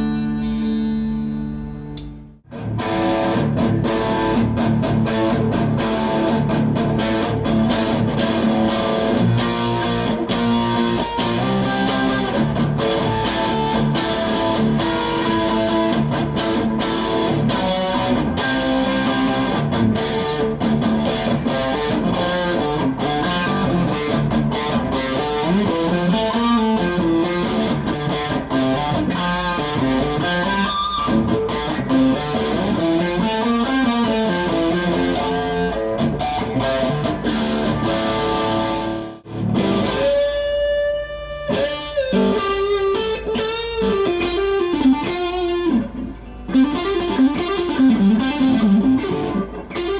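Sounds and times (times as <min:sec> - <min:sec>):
electric guitar strummed and picked: 0:00.0 - 0:49.9.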